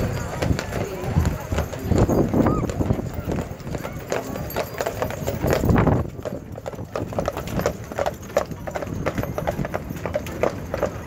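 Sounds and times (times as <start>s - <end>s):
hooves clip-clopping on tarmac: 0.0s - 11.0s.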